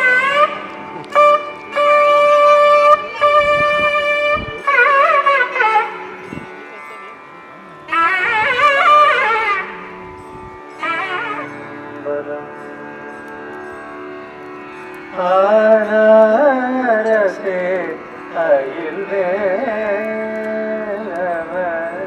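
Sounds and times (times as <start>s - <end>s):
melodic instrument playing ornamented phrases: 0.0s - 22.0s.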